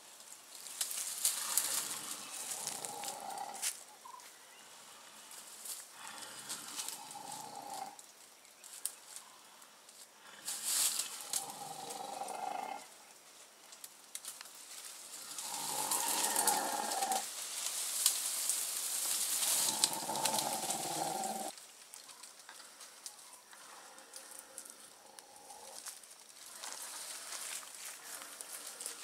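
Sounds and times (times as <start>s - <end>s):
rustling leaves: 0.0s - 29.0s.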